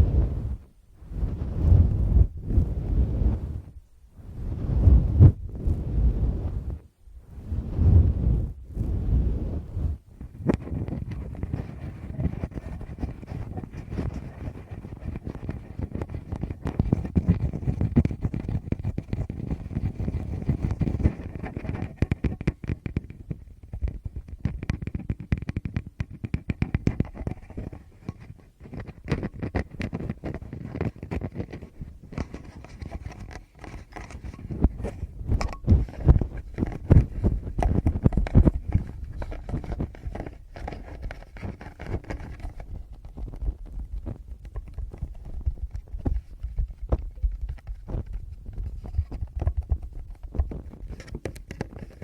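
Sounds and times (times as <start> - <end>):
fingertips tapping on microphones: 10.2 - 52.0.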